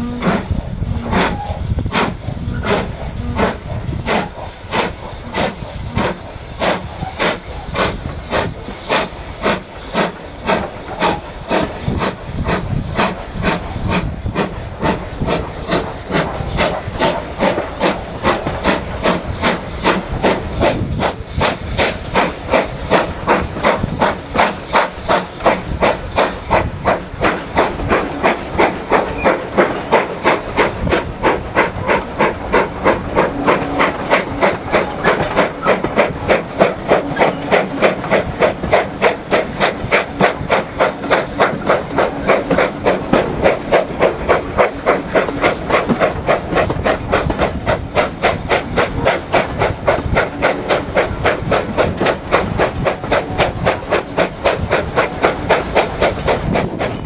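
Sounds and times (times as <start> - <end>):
steam locomotive exhaust chuffing: 0.0 - 57.0
train running on track: 0.0 - 57.0.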